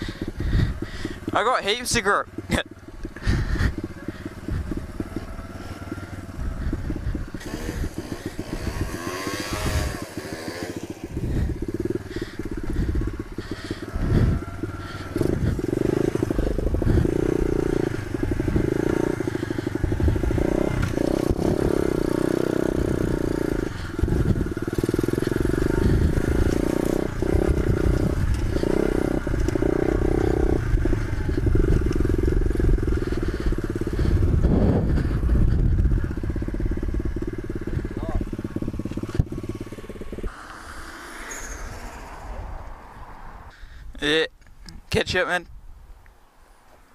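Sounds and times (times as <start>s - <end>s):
pit bike engine revving: 0.0s - 43.7s.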